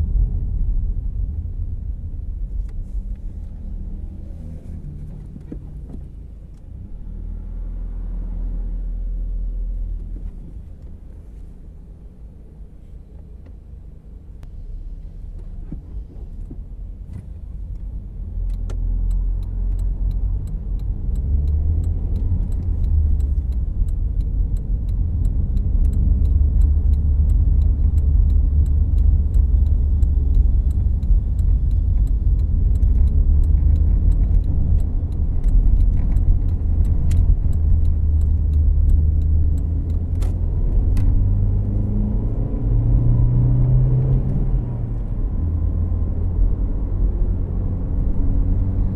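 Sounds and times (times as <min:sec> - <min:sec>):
engine and road noise rumble: 0:00.0 - 0:48.9.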